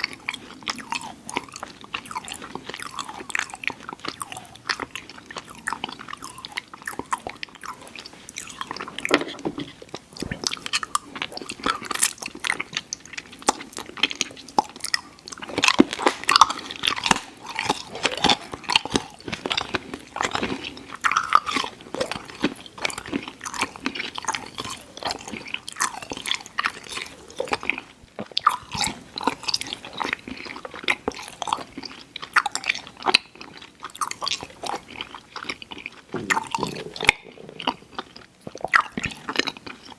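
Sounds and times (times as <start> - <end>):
mouth chewing sticky candy: 0.0 - 39.9.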